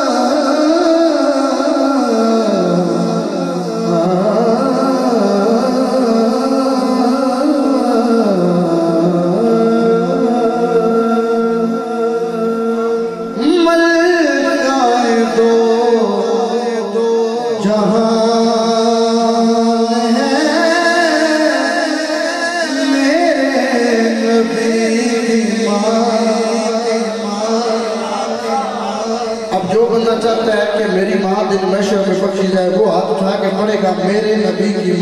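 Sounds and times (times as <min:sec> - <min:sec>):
man singing into a microphone: 0:00.0 - 0:35.0.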